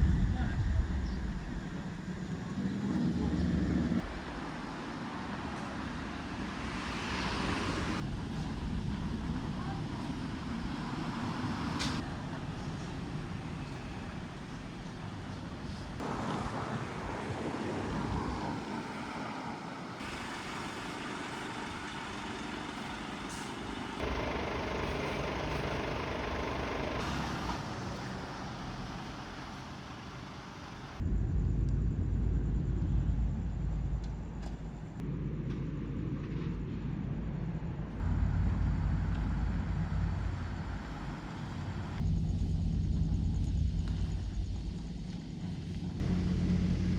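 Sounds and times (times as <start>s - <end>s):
road traffic rumble: 0.0s - 46.9s.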